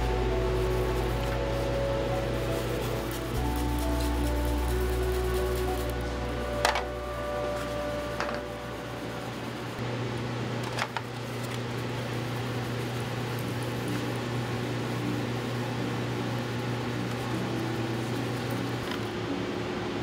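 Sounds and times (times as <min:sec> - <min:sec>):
ventilation fan humming: 0:00.0 - 0:20.0.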